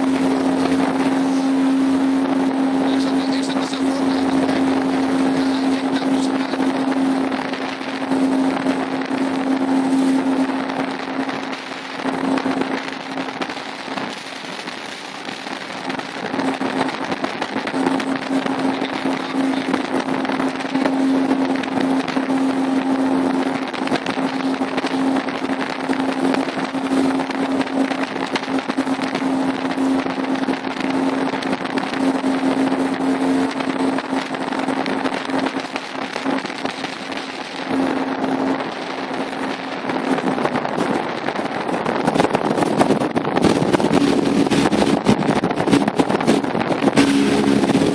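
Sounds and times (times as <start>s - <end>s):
choppy water against hull: 0.0s - 47.9s
motorboat motor humming: 0.0s - 47.9s
wind buffeting microphone: 0.0s - 47.9s.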